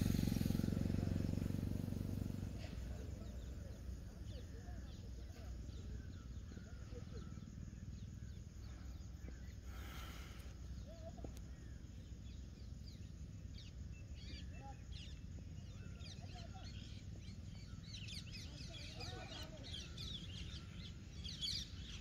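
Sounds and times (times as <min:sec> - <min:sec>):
steady low rumble: 0:00.0 - 0:18.4
birds chirping and calling: 0:02.6 - 0:22.0.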